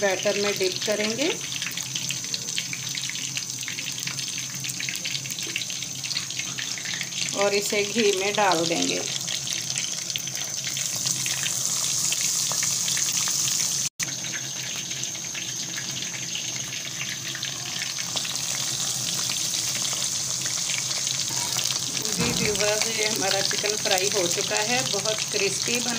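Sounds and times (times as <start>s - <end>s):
chicken deep-frying sizzle: 0.0s - 25.9s.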